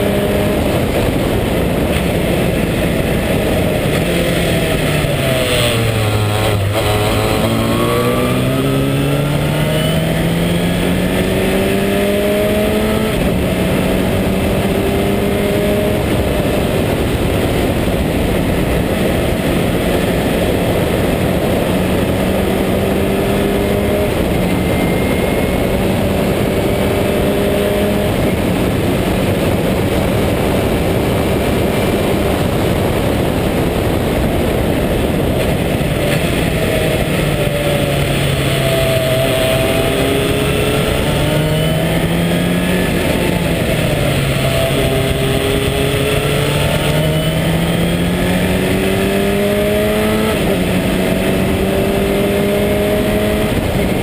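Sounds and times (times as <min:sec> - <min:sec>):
heavy wind noise: 0:00.0 - 0:54.0
race car engine at speed: 0:00.0 - 0:54.0.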